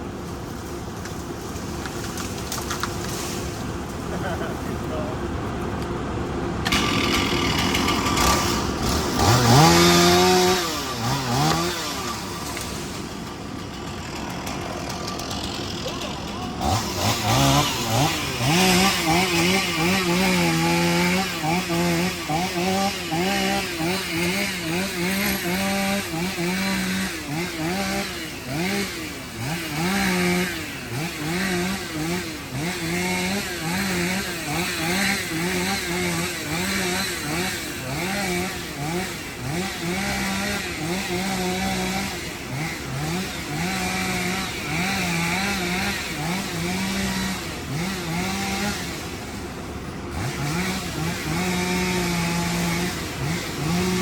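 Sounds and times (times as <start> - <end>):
excavator diesel engine running hard: 0.0 - 54.0.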